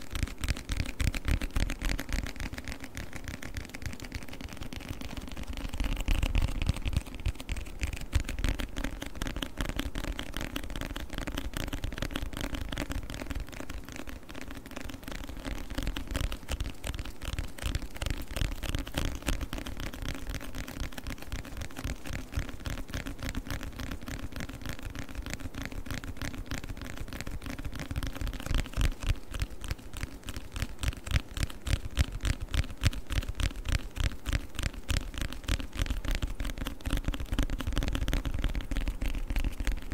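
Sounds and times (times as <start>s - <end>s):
fast tapping on a book: 0.0s - 39.9s.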